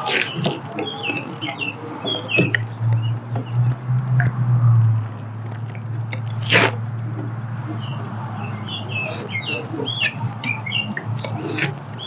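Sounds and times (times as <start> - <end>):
small birds chirping: 0.0 - 3.8, 5.1 - 12.0.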